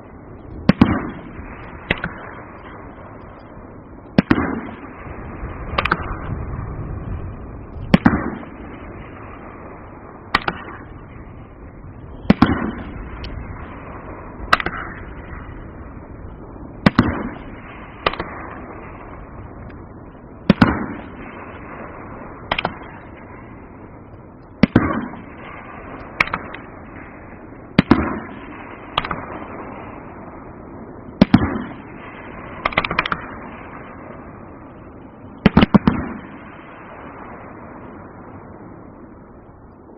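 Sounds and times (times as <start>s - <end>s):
firework bangs: 0.0s - 24.0s, 24.6s - 38.4s
echoing rumble and crackle: 0.0s - 39.9s.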